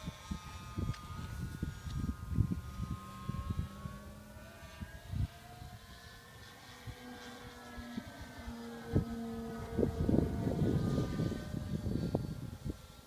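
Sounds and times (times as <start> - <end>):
model plane motor whining: 0.0 - 13.0
wind buffeting microphone: 0.0 - 13.0.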